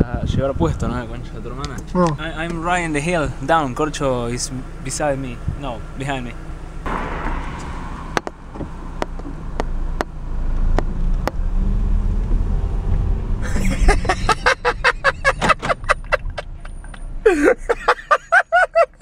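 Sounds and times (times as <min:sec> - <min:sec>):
car engine running: 0:00.4 - 0:17.8.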